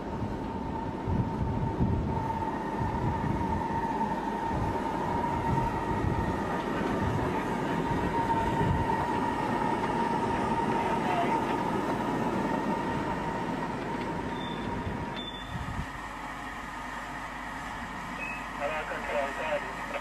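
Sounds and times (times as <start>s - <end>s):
steady high whine: 0.0s - 20.0s
train rumbling on track: 0.0s - 20.0s.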